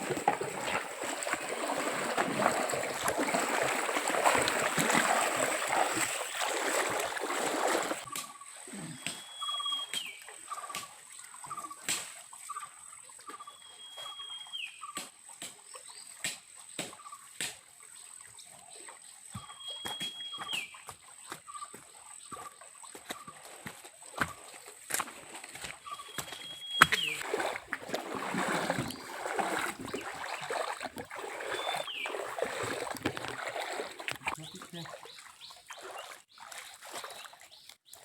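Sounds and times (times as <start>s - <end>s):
water splashing and sloshing: 0.0s - 8.3s, 15.0s - 38.0s.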